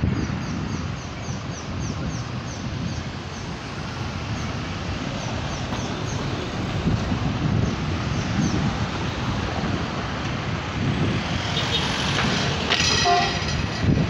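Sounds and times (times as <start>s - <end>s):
cars passing: 0.0s - 14.0s
wind rumbling on microphone: 0.0s - 14.0s.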